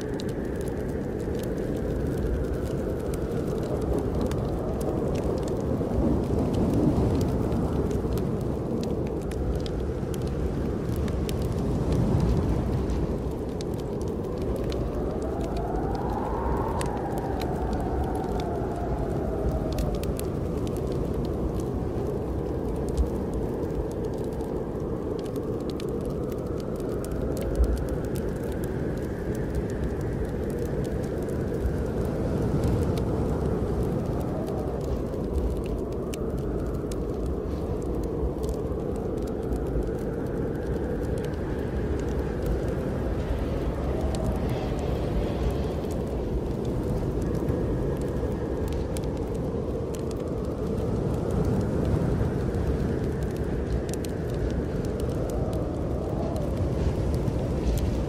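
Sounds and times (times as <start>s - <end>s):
snowstorm wind rushing: 0.0s - 58.0s
wood fire crackling: 0.0s - 58.0s.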